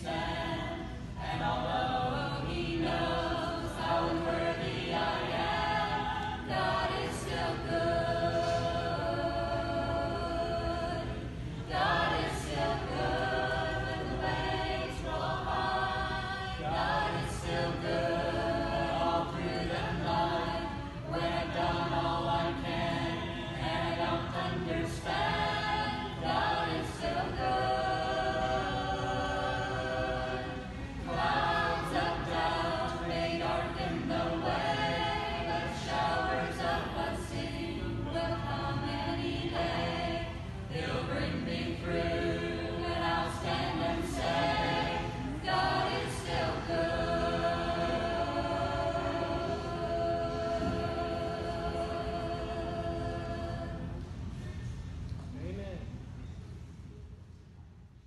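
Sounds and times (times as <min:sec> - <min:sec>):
group singing a hymn unaccompanied: 0:00.0 - 0:54.6.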